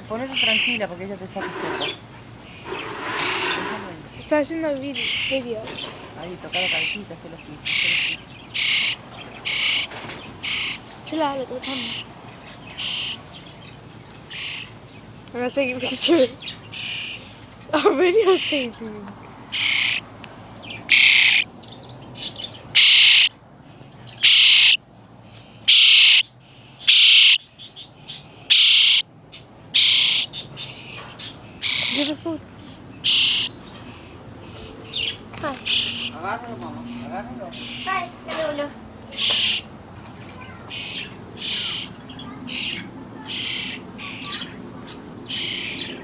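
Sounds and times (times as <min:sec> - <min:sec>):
young bird begging calls: 0:00.0 - 0:01.0, 0:01.7 - 0:14.8, 0:15.6 - 0:17.3, 0:18.1 - 0:18.8, 0:19.5 - 0:21.5, 0:22.2 - 0:23.4, 0:24.1 - 0:39.7, 0:40.3 - 0:44.6, 0:45.2 - 0:46.0.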